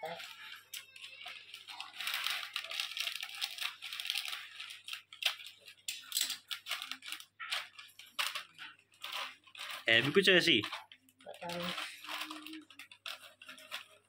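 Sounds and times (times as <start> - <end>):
plastic packet crinkling: 0.0 - 14.0
scissors cutting plastic: 0.0 - 14.0.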